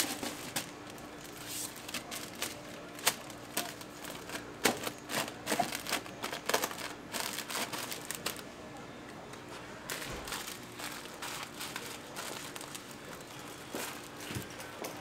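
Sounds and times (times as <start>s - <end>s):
dry seaweed sheets crinkling: 0.0s - 8.5s, 9.4s - 15.0s
faint steady hum: 0.0s - 15.0s.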